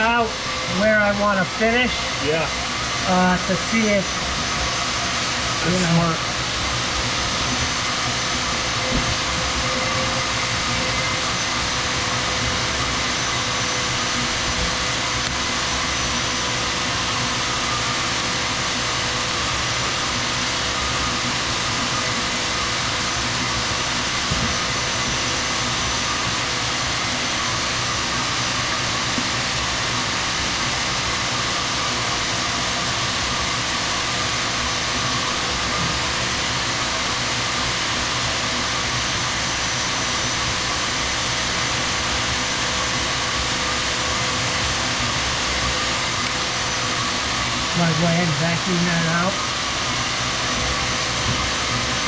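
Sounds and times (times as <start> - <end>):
machine motor running: 0.0 - 52.0.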